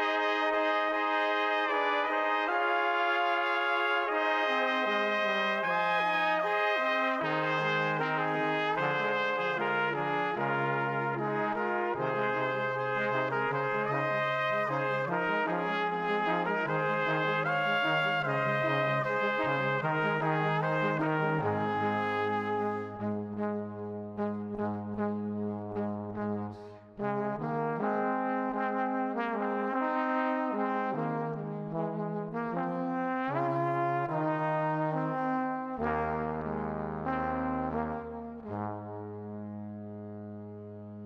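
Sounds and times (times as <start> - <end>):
brass ensemble playing chords: 0.0 - 41.0.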